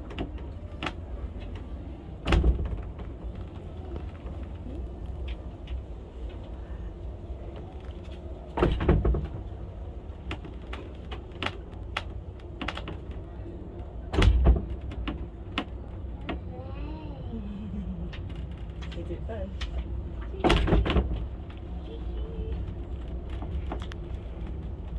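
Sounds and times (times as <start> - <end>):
railway car low rumble: 0.0 - 24.9.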